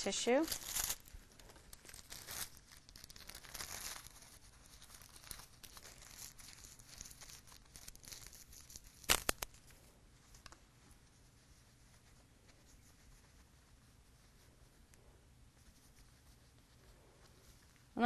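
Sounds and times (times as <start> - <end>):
tissue crinkling on a lens: 0.0 - 18.0.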